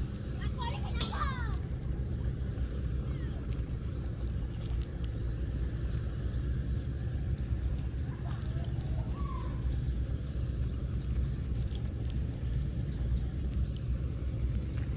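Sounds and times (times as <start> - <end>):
faint pulsing high chirping: 0.0 - 14.9
steady low rumble: 0.0 - 14.9.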